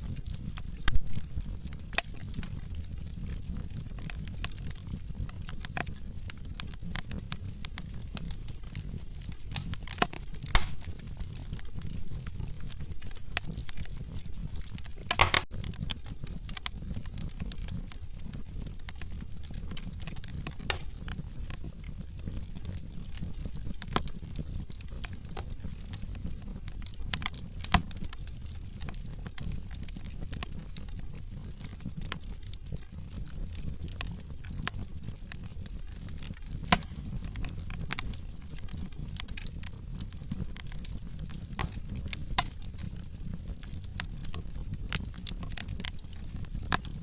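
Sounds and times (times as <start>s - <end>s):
logs crackling and snapping: 0.0s - 47.0s
loud pops from fire: 0.0s - 47.0s
low rumble of flames: 0.0s - 47.0s.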